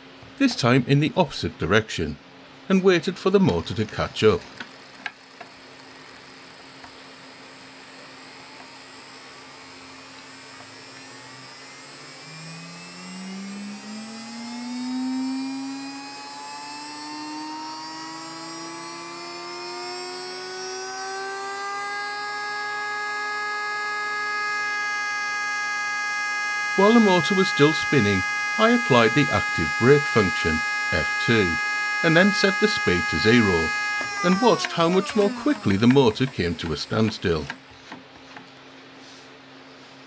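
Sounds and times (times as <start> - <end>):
small electric motor whine: 4.3 - 38.5.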